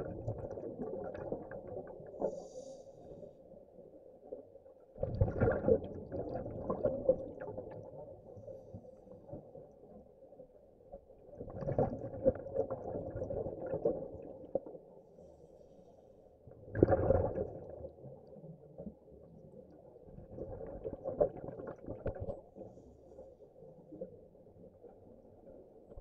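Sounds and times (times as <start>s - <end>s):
underwater exhaust bubbles: 0.0s - 10.2s, 10.9s - 15.4s, 16.4s - 26.0s.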